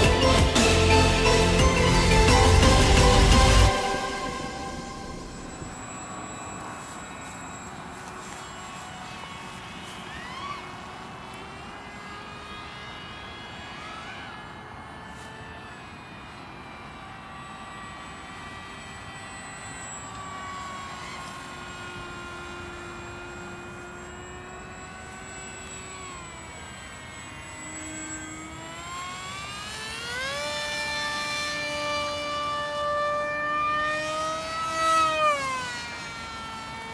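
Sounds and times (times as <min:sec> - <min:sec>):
electric motor and propeller whine: 0:00.0 - 0:36.9.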